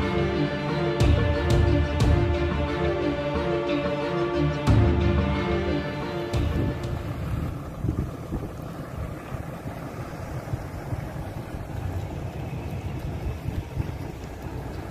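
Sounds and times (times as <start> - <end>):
diesel truck engine rumbling: 0.0 - 14.9.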